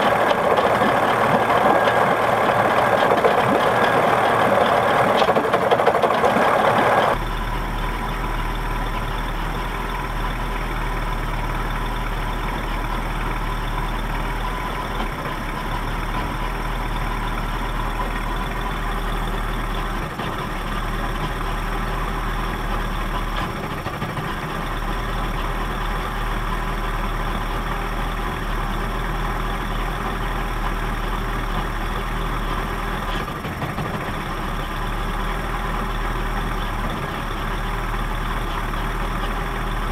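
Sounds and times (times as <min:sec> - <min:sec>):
outboard motor idling roughly: 0:00.0 - 0:39.9.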